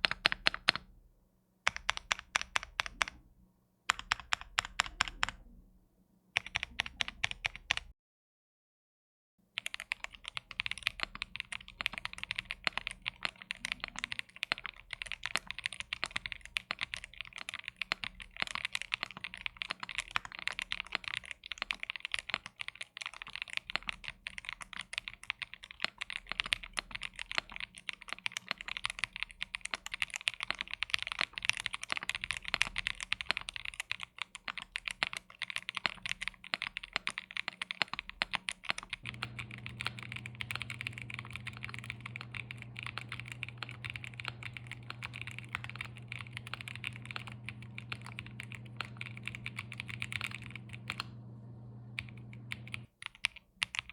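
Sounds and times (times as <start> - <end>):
mechanical keyboard typing: 0.0 - 0.9, 1.7 - 3.2, 3.9 - 5.5, 6.4 - 7.9, 9.6 - 51.2, 51.9 - 53.9.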